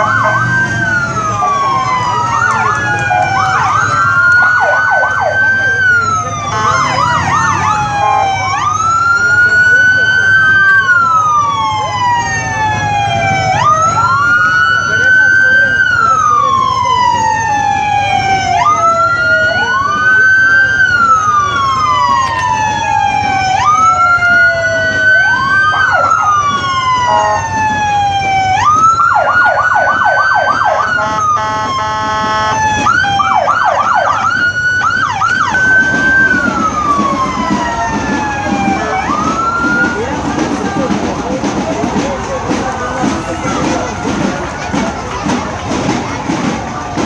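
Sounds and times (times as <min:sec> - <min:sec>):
siren fast yelp: 0:00.0 - 0:40.3
emergency sirens wailing: 0:00.0 - 0:47.0.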